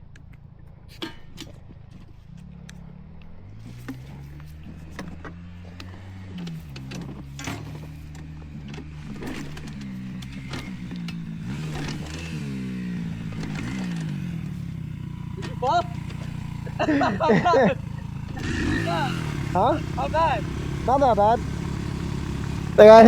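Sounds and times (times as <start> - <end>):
dirt bike engine revving: 2.4 - 23.0.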